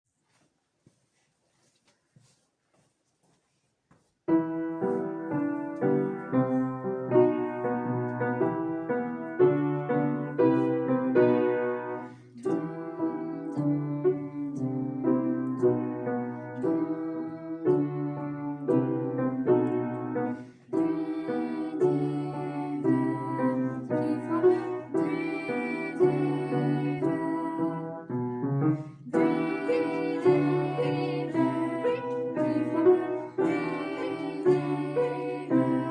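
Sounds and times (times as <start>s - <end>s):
slow piano melody: 4.3s - 35.9s.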